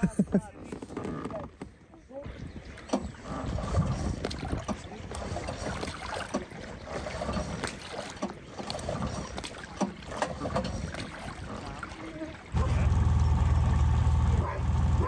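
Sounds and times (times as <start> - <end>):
outboard motor running: 2.2 - 15.0.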